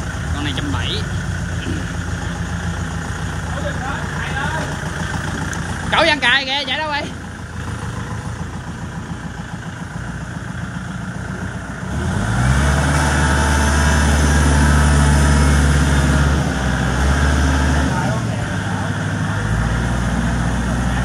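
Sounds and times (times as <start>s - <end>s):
tractor diesel engine revving: 0.0s - 21.0s.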